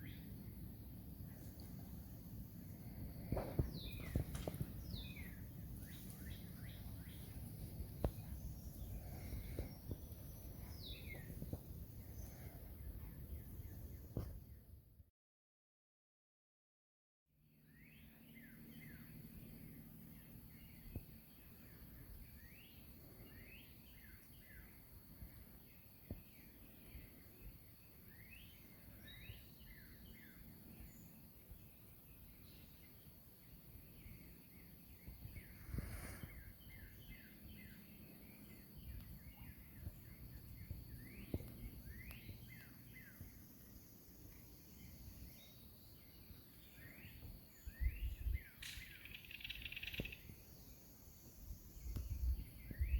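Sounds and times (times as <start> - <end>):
birds chirping: 0.0 - 14.5, 17.9 - 52.9.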